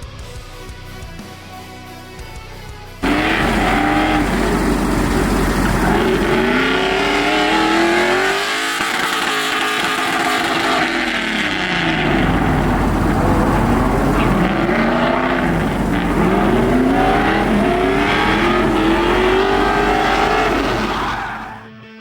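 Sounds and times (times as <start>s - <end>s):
car engine revving hard: 3.0s - 21.7s
tyres squealing: 3.0s - 21.7s.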